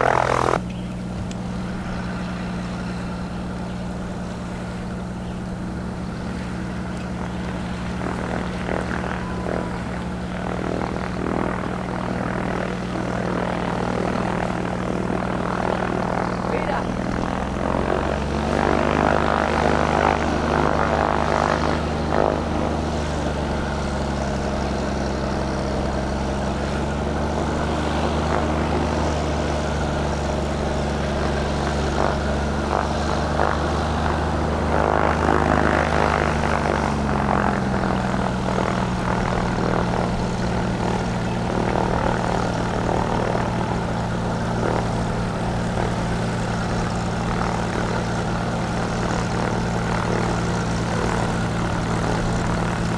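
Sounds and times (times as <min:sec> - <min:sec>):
floatplane engine and propeller: 0:00.0 - 0:52.9.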